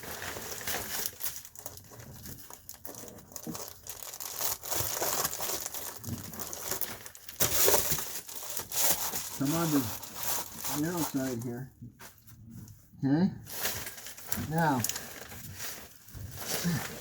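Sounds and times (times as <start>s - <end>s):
foil insulation crinkling: 0.0s - 12.4s, 13.5s - 17.0s.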